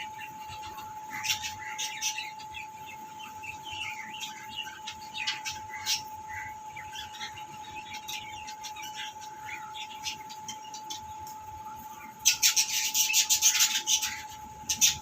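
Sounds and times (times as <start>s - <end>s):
small birds chirping: 0.0s - 15.0s
steady humming tone: 0.0s - 15.0s.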